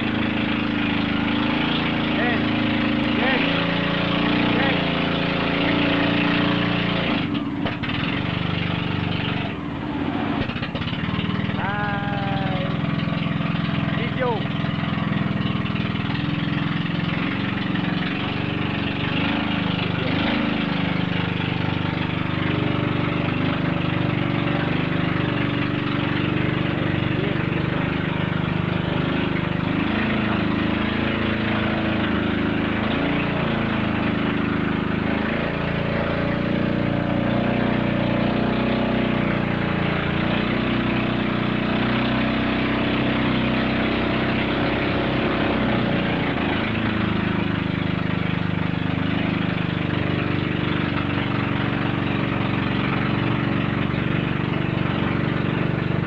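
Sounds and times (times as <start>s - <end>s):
boat engine running: 0.0s - 56.0s
water rushing: 0.0s - 56.0s
wind: 0.0s - 56.0s.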